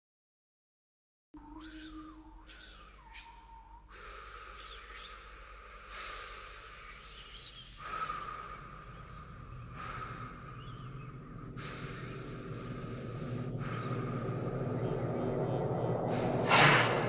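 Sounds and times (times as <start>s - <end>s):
low hum: 1.4s - 17.0s
person breathing: 1.5s - 17.0s.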